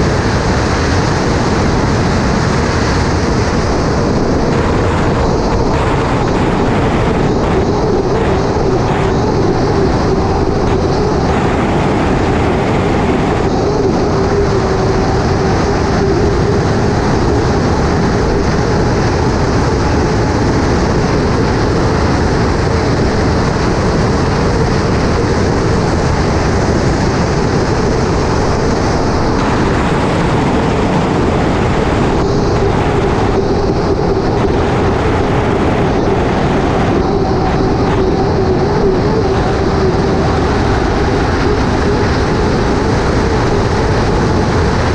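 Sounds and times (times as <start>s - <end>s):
rushing wind and water: 0.0s - 44.9s
turbine engine whine: 0.0s - 44.9s.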